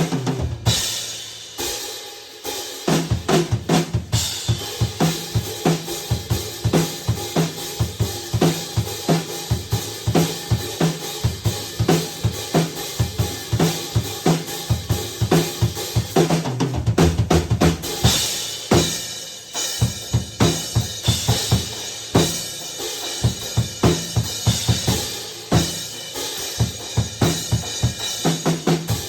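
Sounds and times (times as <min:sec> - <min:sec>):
acoustic drum kit playing: 0:00.0 - 0:29.0.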